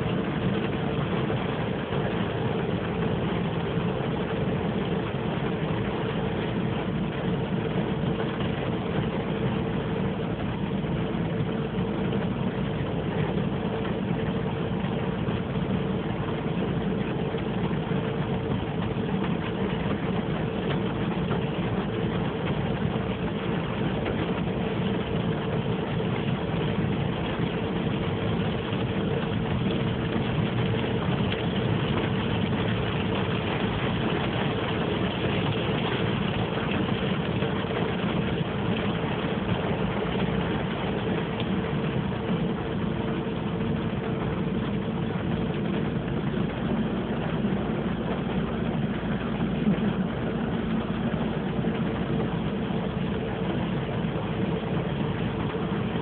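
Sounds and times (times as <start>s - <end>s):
car engine idling: 0.0s - 56.0s
rain falling on car: 0.0s - 56.0s
steady hum: 0.0s - 56.0s.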